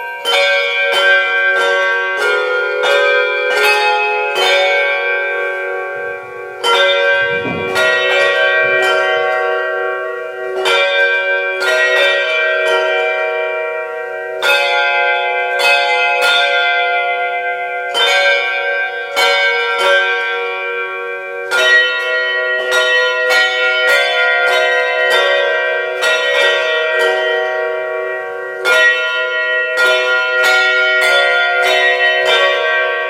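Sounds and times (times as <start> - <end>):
handbell choir playing a carol: 0.0 - 33.0.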